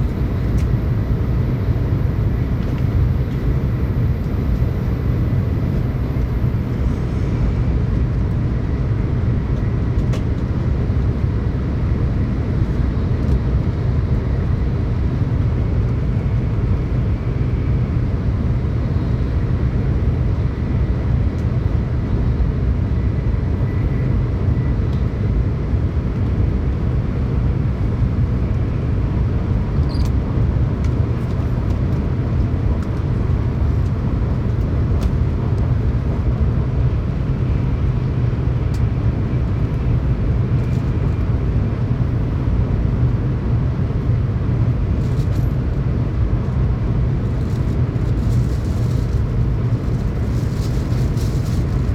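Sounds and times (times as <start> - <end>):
train rumble inside cabin: 0.0 - 51.9.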